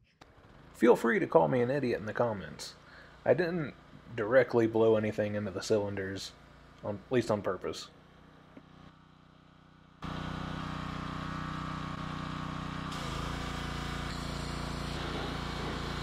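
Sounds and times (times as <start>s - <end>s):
pressure washer engine running: 0.2s - 16.0s.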